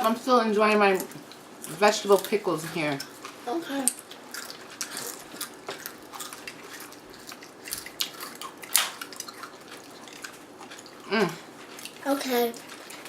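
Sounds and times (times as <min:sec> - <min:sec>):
wet chewing: 0:00.7 - 0:13.0.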